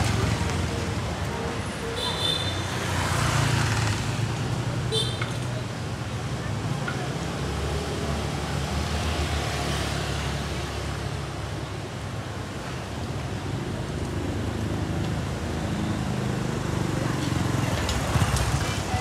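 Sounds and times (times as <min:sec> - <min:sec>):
road noise hiss: 0:00.0 - 0:19.0.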